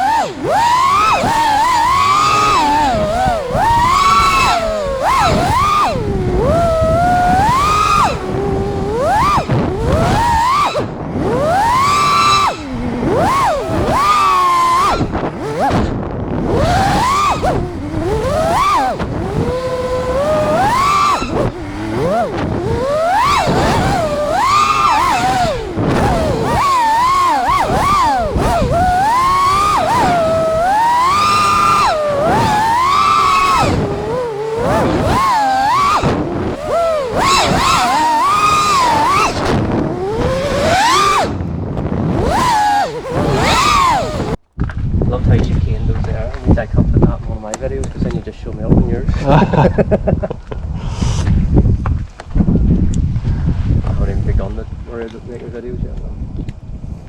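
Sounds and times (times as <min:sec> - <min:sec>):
quadcopter motors whining: 0:00.0 - 0:44.7, 0:45.5 - 0:56.6.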